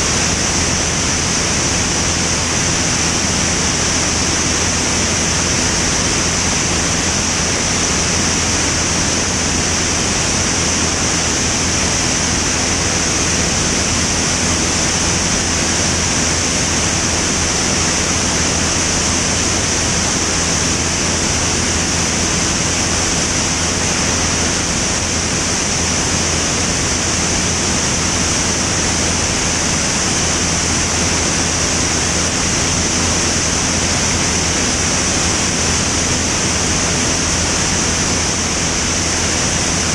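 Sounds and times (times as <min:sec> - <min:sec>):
aircraft engine and propeller drone: 0:00.0 - 0:39.9
rushing air roar: 0:00.0 - 0:39.9.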